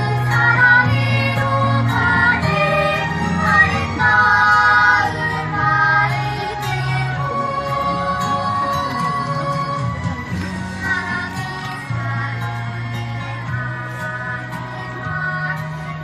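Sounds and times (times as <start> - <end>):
children singing in unison: 0.0 - 10.0, 10.6 - 16.0
backing accompaniment: 0.0 - 16.0.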